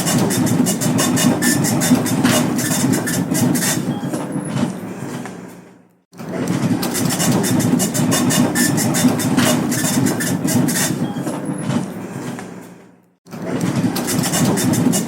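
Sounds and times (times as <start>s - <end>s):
dot matrix printer clatter: 0.0s - 5.3s, 6.2s - 12.7s, 13.3s - 15.0s.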